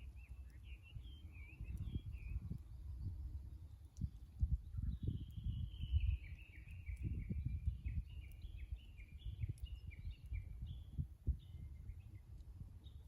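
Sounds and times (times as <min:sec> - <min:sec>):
bush warbler song: 0:00.0 - 0:13.0.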